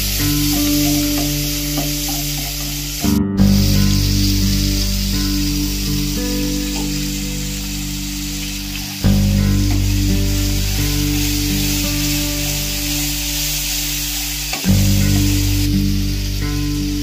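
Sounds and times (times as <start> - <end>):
background music: 0.0 - 17.0
paste sizzling in a pan: 0.0 - 17.0.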